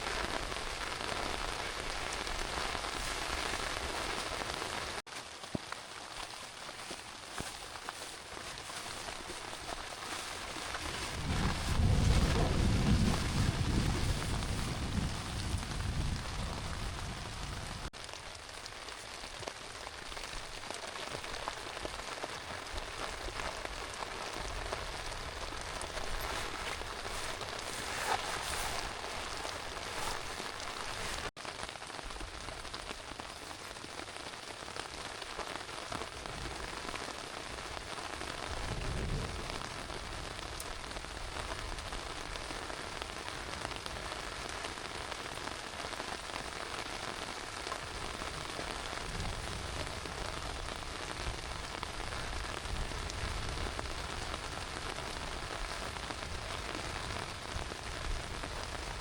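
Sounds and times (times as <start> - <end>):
heavy rain hissing: 5.9 - 59.0.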